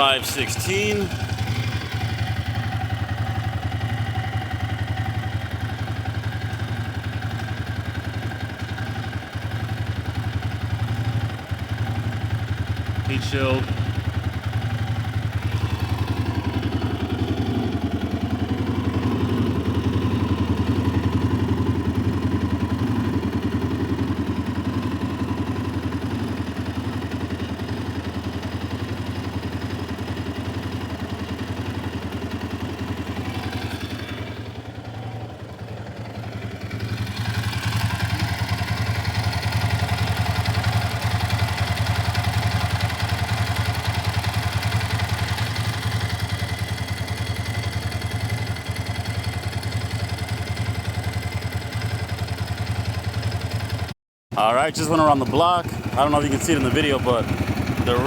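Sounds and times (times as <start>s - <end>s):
quad bike engine idling: 0.0s - 58.0s.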